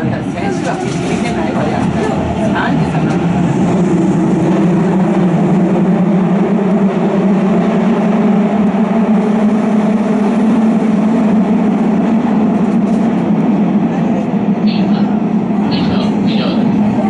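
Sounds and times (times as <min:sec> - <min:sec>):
train wheels and motors rumbling: 0:00.0 - 0:17.0.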